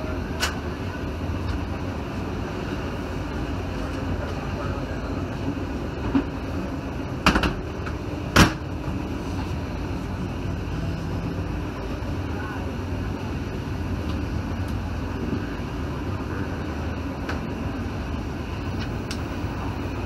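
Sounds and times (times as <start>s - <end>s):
train coach running rumble: 0.0s - 20.0s.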